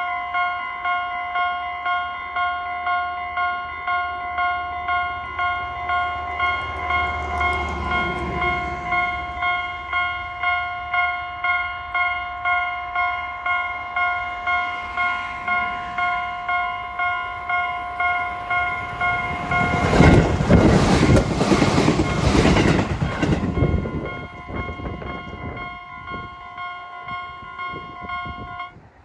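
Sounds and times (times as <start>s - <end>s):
train passing: 1.4s - 29.0s.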